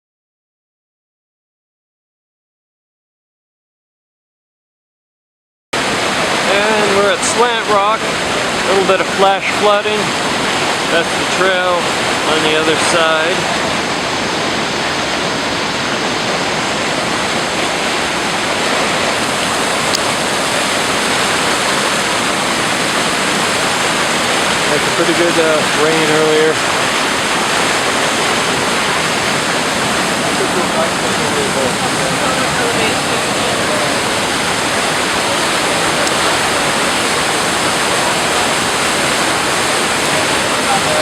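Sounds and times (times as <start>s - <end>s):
floodwater rushing: 5.8s - 41.0s.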